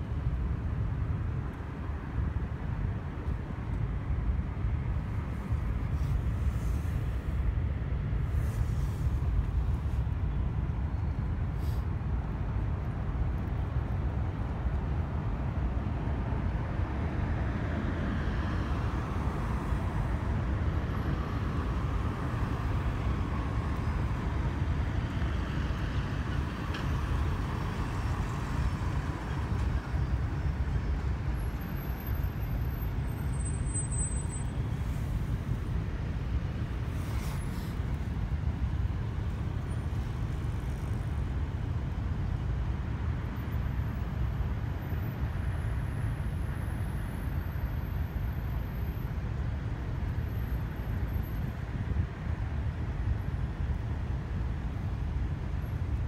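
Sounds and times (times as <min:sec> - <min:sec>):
low rumble of passing traffic: 0:00.0 - 0:56.0.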